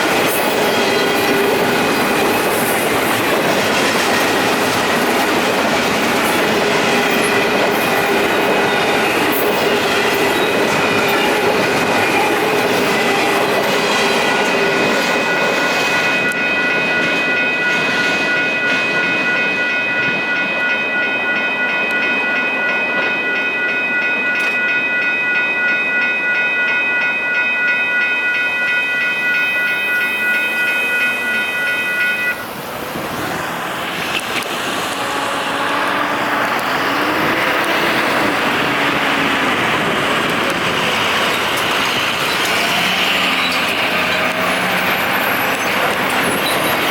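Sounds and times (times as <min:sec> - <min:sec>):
crossing bell ringing: 0:00.0 - 0:46.9
train wheels clacking on rails: 0:00.0 - 0:46.9.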